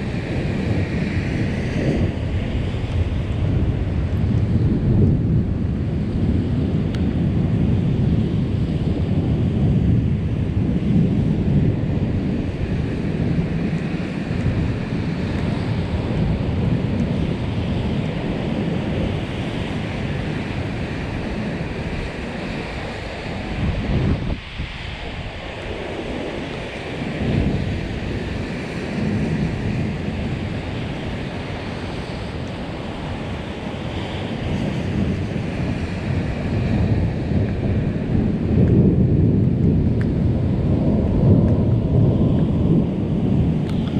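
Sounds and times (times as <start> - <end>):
thunder rumbling: 0.0 - 43.9
wind buffeting microphone: 0.0 - 43.9.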